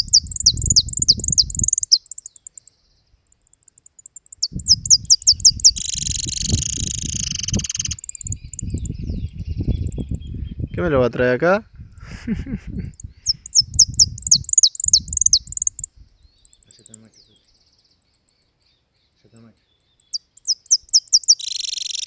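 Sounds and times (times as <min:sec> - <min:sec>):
finch singing: 0:00.0 - 0:11.0, 0:12.9 - 0:22.0.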